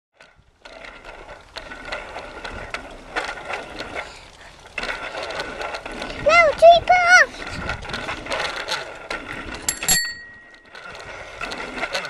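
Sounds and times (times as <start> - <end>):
bicycle rattling and clicking: 0.1 - 12.0
bicycle rolling noise: 0.1 - 12.0.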